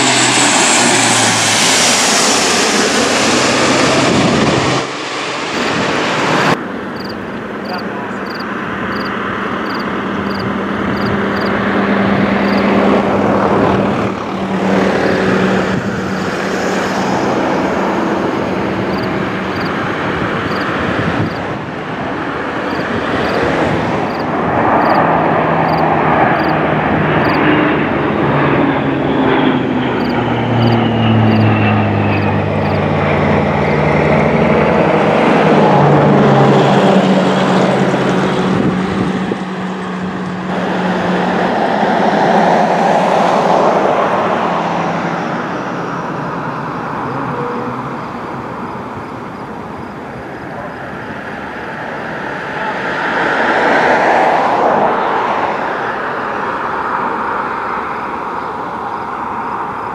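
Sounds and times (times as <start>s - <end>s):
jet engine rush: 0.0s - 59.9s
turboprop aircraft drone: 0.0s - 59.9s.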